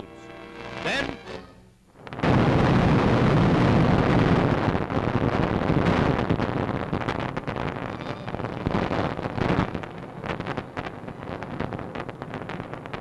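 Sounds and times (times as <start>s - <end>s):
low explosion rumble: 1.9s - 13.0s
explosion blast: 2.0s - 13.0s.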